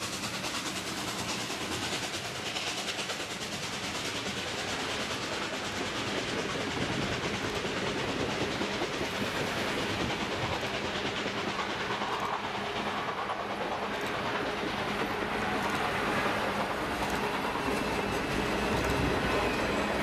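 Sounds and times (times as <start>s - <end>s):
train coaches rolling past: 0.0s - 20.0s.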